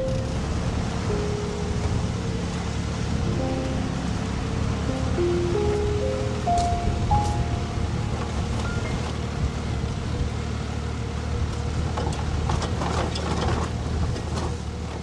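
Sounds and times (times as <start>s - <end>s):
vehicle engine humming: 0.0s - 12.4s.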